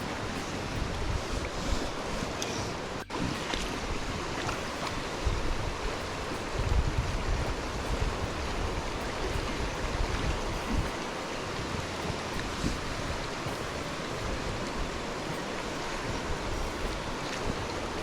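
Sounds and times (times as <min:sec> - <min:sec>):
stream rushing: 0:00.0 - 0:18.0
wind rumble on microphone: 0:00.0 - 0:18.0.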